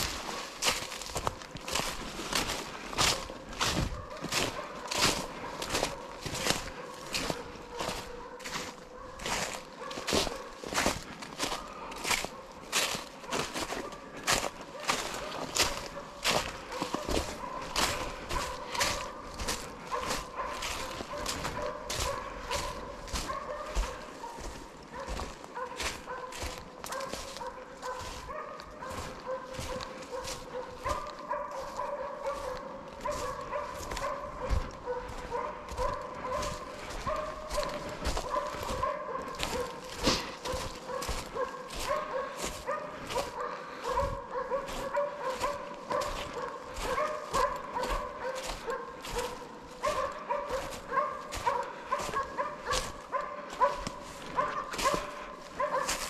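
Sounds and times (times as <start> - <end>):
hounds barking and yelping: 0.0 - 56.0.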